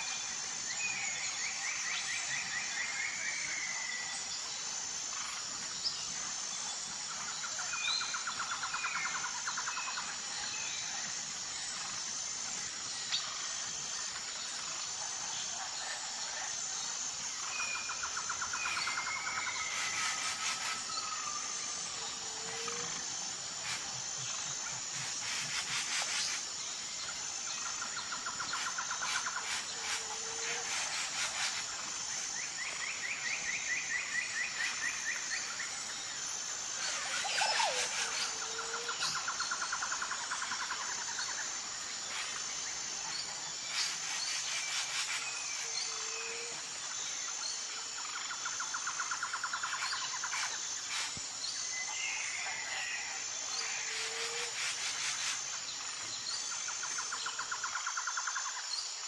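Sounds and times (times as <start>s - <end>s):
pulsing insect chorus: 0.0s - 59.0s.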